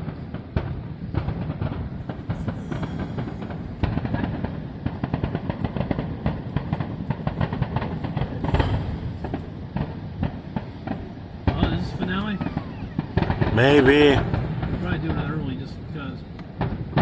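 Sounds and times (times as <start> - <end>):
fireworks barrage: 0.0 - 17.0.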